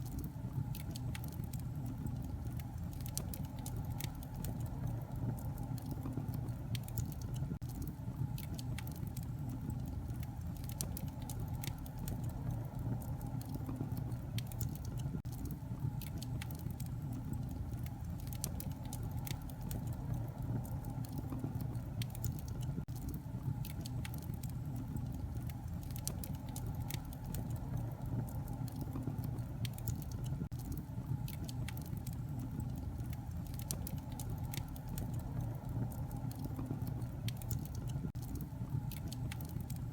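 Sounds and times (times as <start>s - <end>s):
low rumble of flames: 0.0s - 39.9s
sharp pops and snaps: 0.0s - 39.9s
wood fire crackling: 0.0s - 39.9s.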